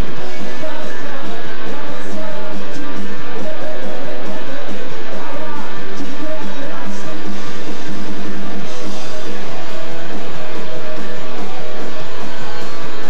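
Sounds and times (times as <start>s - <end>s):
drums: 0.0s - 13.0s
electric guitars strumming: 0.0s - 13.0s.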